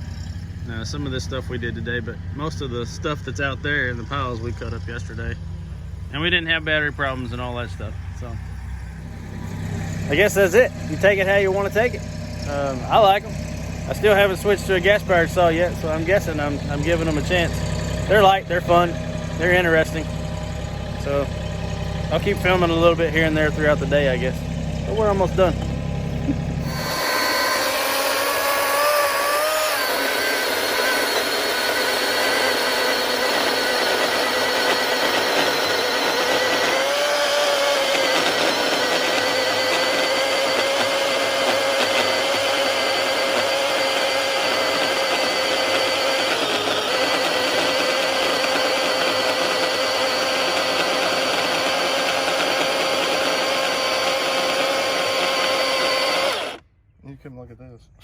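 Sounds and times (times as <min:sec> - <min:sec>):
electric chainsaw whining: 0:05.5 - 0:56.6.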